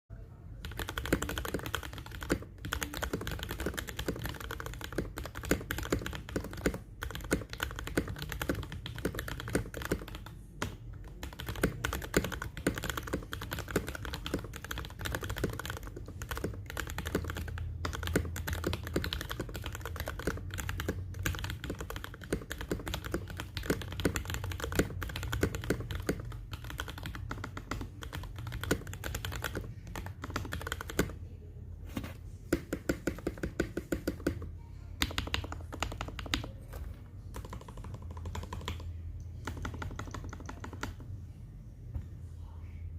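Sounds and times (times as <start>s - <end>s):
mechanical keyboard typing: 0.6s - 31.2s, 32.5s - 41.1s.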